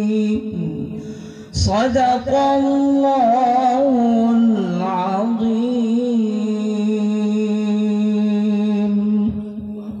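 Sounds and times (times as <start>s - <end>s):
man reciting through microphone: 0.0s - 10.0s.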